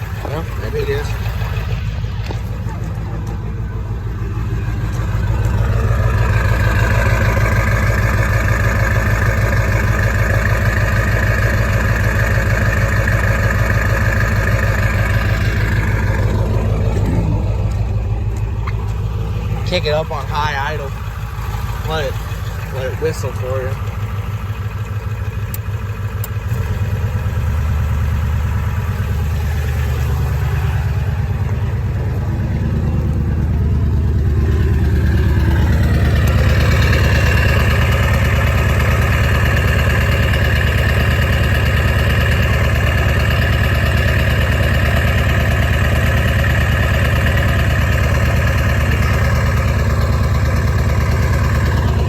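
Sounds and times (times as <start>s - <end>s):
diesel engine high idle: 0.0s - 52.0s.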